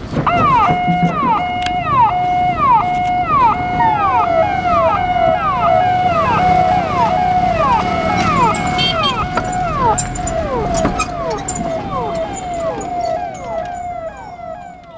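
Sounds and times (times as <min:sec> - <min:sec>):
low vehicle rumble: 0:00.0 - 0:14.9
ambulance siren: 0:00.1 - 0:14.9.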